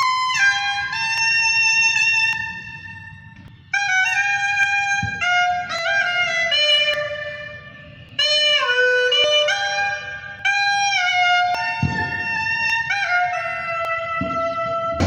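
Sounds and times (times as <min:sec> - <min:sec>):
solo clarinet melody: 0:00.0 - 0:15.0.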